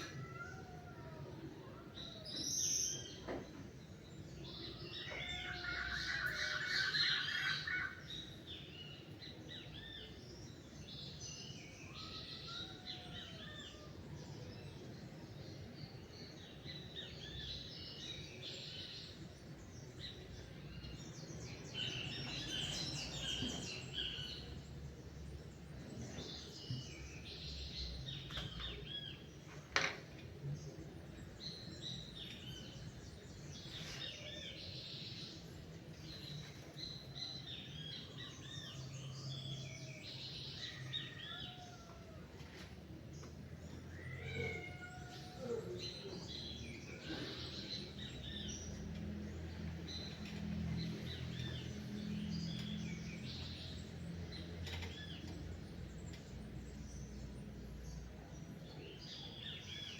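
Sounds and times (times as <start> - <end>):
songbirds singing and chirping: 0.0 - 59.9.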